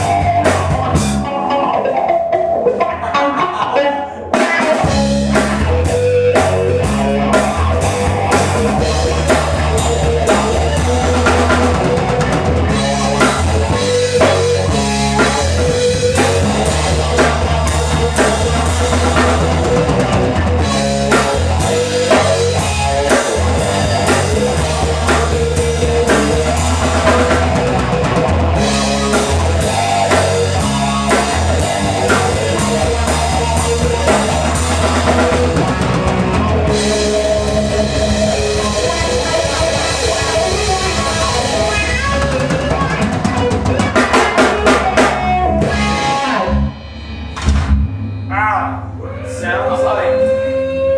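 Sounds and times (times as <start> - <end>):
bass line: 0.0 - 1.8, 4.3 - 50.9
drum kit beat: 0.0 - 49.0
electric guitar: 0.0 - 50.9.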